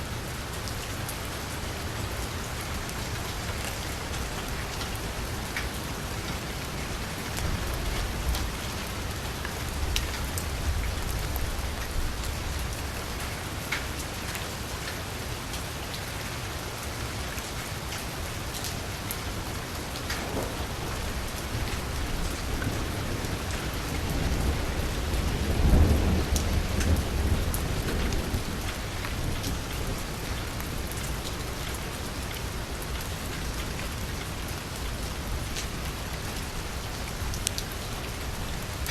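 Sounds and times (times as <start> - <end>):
rain on a street: 0.0 - 38.9.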